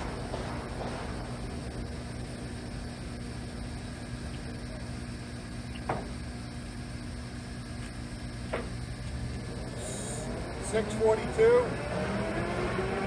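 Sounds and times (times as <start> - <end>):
lathe running hum: 0.0 - 13.0.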